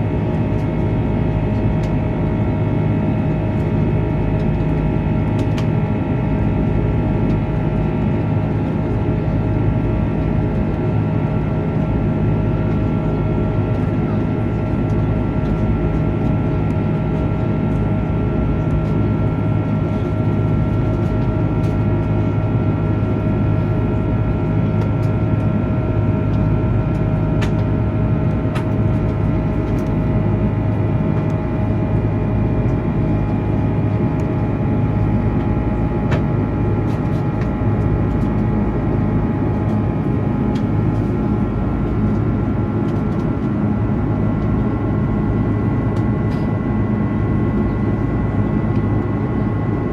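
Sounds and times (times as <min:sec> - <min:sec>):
airplane cabin roar: 0:00.0 - 0:49.9.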